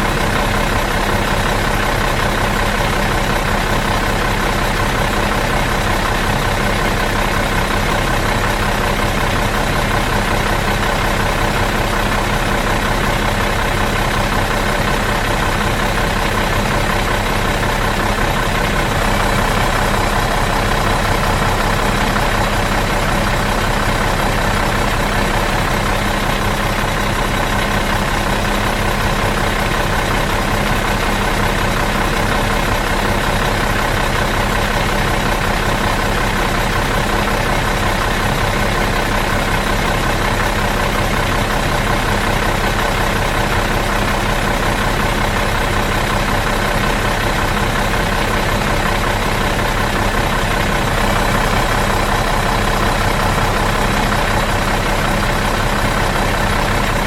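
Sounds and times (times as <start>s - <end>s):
bus engine idling: 0.0s - 57.0s.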